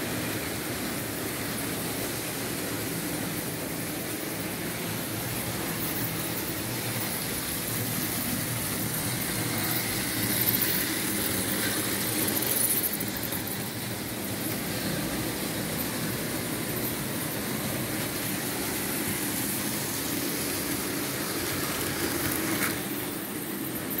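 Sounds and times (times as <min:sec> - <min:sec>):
model trains whirring on track: 0:00.0 - 0:24.0.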